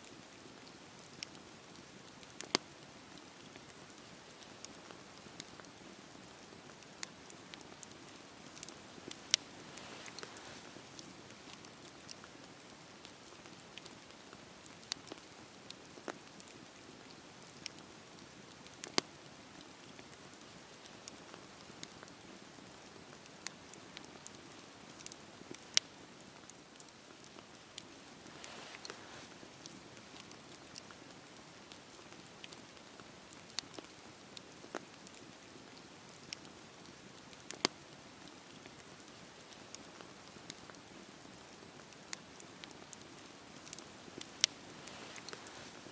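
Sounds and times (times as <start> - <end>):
campfire crackling and popping: 0.0 - 45.9
wood fire hissing: 0.1 - 45.9.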